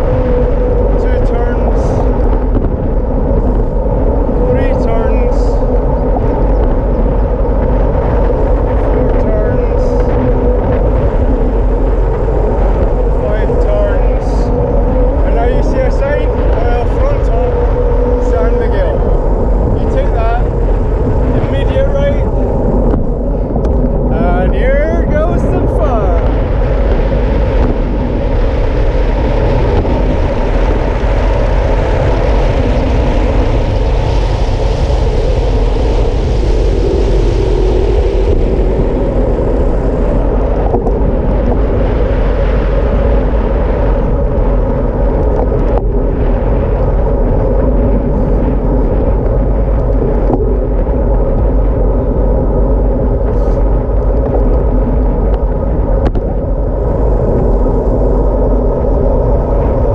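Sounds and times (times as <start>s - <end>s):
bike tyres on asphalt: 0.0s - 59.9s
wind buffeting microphone: 0.0s - 59.9s.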